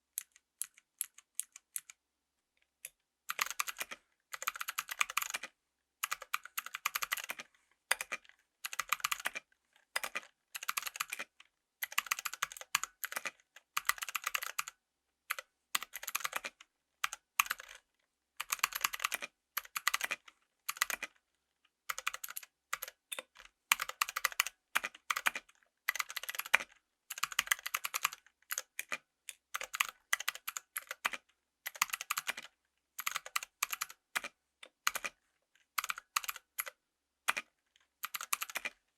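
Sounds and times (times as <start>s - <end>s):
mechanical keyboard typing clicks: 0.2s - 2.0s, 2.8s - 17.8s, 18.4s - 21.1s, 21.9s - 35.2s, 35.8s - 38.8s.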